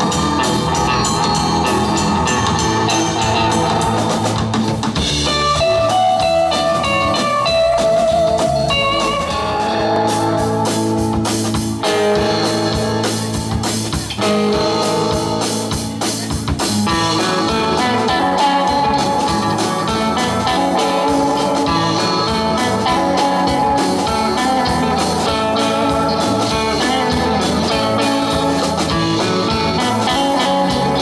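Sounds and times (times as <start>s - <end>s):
electric guitar runs: 0.0s - 16.0s, 16.7s - 31.0s
live rock band playing: 0.0s - 31.0s.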